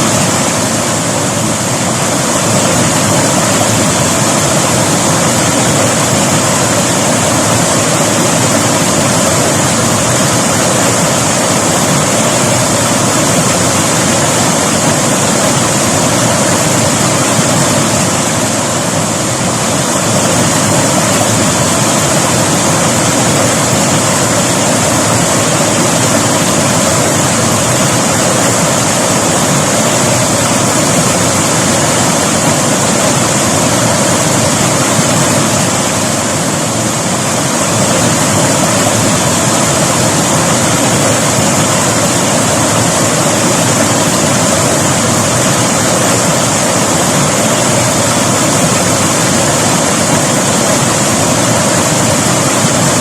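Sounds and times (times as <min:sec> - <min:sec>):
flowing river rushing: 0:00.0 - 0:53.0.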